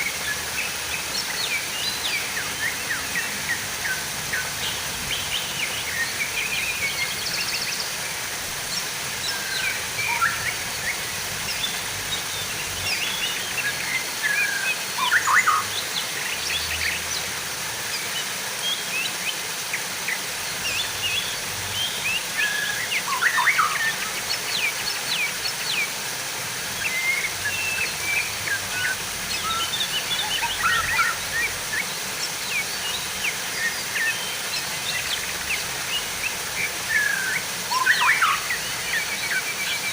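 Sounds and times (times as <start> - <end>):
small birds chirping: 0.0 - 39.9
water rushing and trickling: 0.0 - 39.9.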